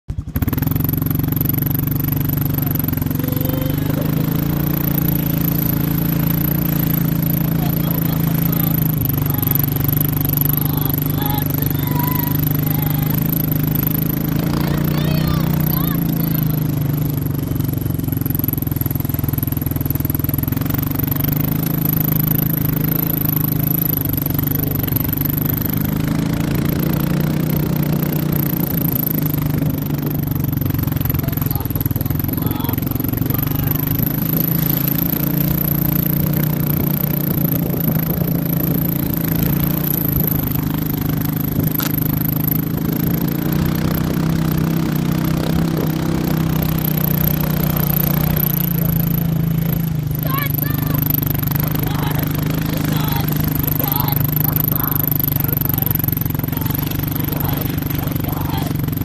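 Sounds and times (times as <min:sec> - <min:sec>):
quad engine running: 0:00.0 - 0:59.0
sleds sliding through snow: 0:00.2 - 0:59.0.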